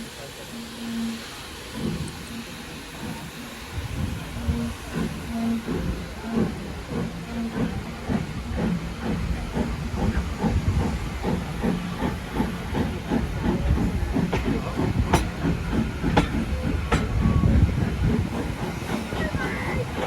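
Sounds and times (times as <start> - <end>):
hiss of steam: 0.0 - 20.0
steam locomotive exhaust beating: 0.0 - 20.0.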